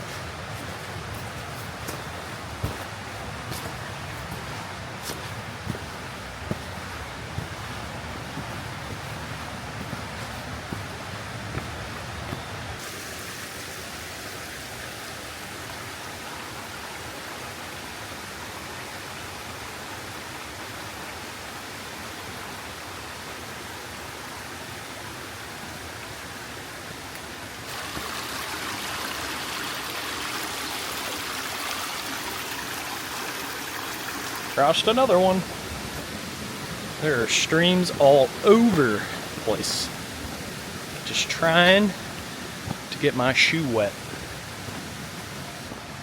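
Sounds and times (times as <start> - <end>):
stream rushing over rocks: 0.0 - 46.0.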